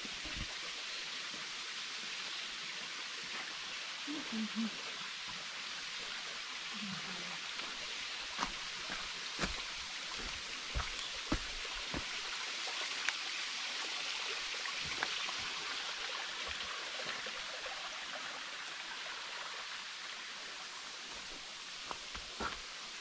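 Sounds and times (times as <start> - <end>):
creek rushing: 0.0 - 23.0.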